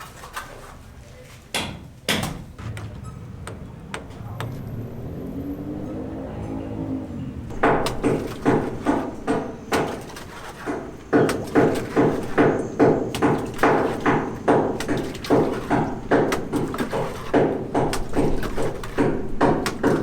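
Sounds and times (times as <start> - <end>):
hammer blows ringing: 1.6 - 6.3, 7.5 - 20.0.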